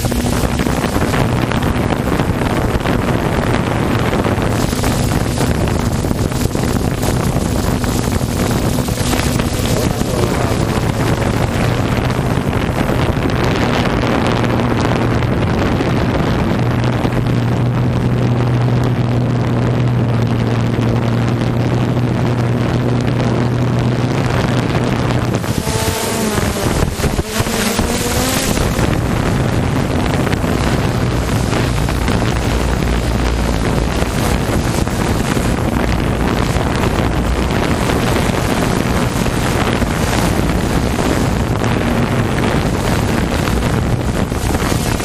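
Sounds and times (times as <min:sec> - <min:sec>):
boat engine running: 0:00.0 - 0:45.0
wind buffeting microphone: 0:00.0 - 0:45.0.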